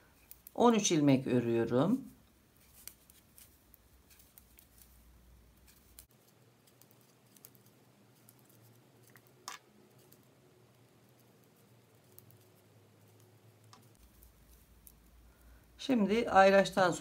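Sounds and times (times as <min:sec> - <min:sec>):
knitting needles clicking: 0:00.1 - 0:00.6, 0:02.2 - 0:15.7.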